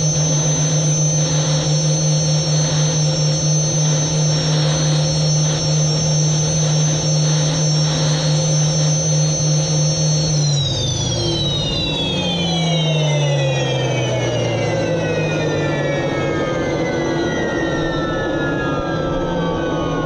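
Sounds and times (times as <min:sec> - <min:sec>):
deep engine drone: 0:00.0 - 0:20.0
gas turbine high whine: 0:00.0 - 0:20.0.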